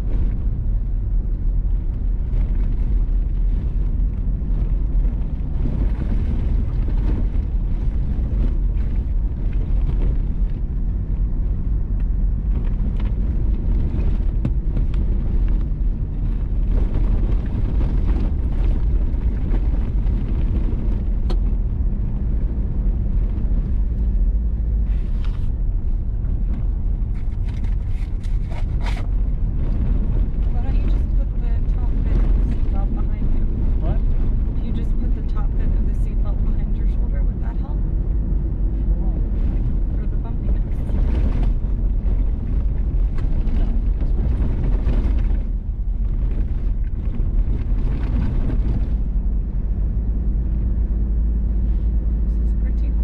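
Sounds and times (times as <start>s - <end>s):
tyres rumbling on gravel: 0.0s - 53.0s.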